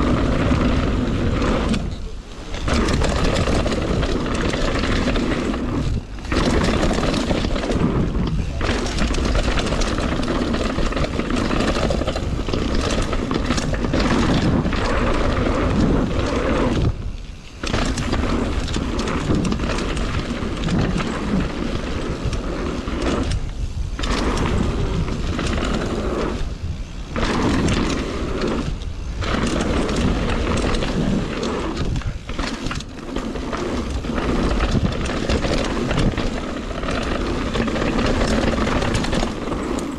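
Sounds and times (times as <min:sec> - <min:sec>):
bike tyres on dirt and rock: 0:00.0 - 0:39.9
wind buffeting microphone: 0:00.0 - 0:39.9.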